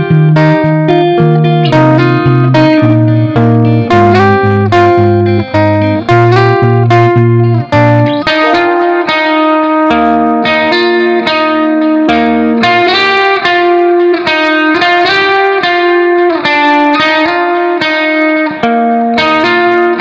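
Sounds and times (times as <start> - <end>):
plucked guitar melody: 0.0 - 20.0.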